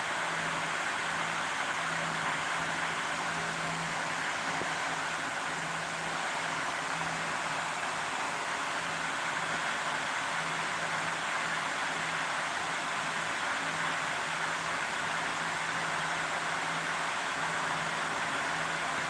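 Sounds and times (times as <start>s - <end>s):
fan running: 0.0s - 19.0s.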